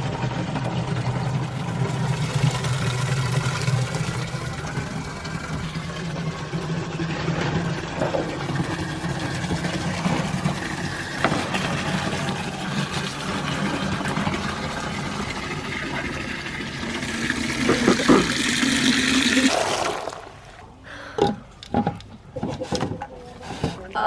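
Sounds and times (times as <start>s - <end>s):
water running into container: 0.0s - 23.8s.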